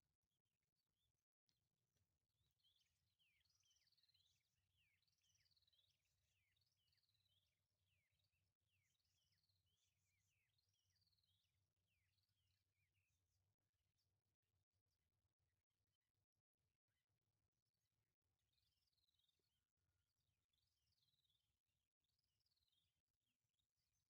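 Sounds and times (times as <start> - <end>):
faint birdsong whistled notes: 0.0 - 24.0.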